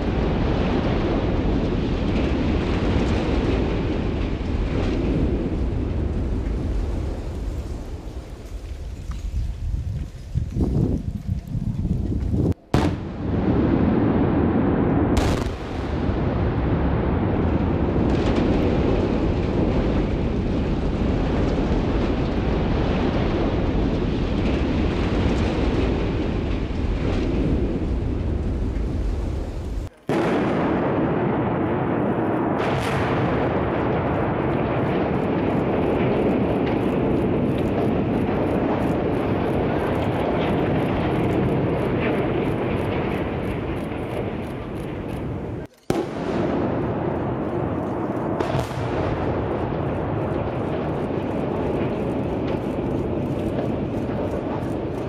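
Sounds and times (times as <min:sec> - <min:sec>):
demolition blasts: 0:00.0 - 0:55.0
heavy rumble of buildings collapsing: 0:00.0 - 0:55.0.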